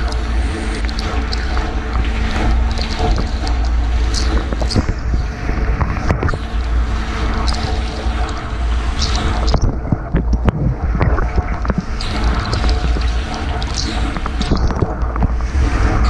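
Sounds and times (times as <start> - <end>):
droplets ticking: 0.0 - 16.0
water spraying and splashing: 0.0 - 16.0.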